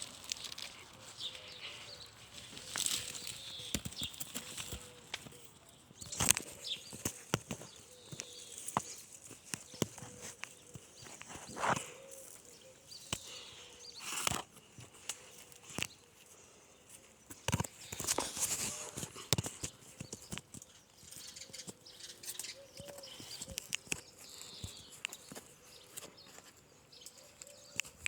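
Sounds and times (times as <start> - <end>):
branches knocking and scraping: 0.0 - 16.4, 17.0 - 28.0.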